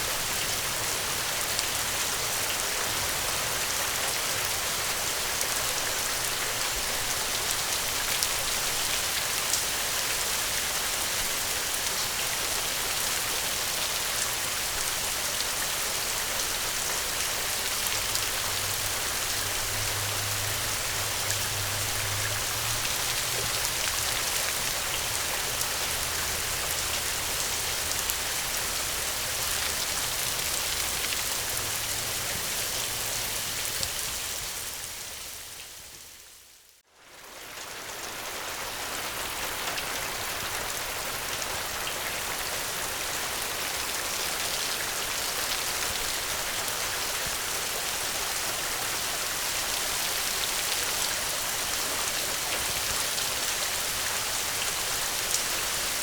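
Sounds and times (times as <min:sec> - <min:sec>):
heavy rain falling: 0:00.0 - 0:36.4, 0:37.0 - 0:56.0.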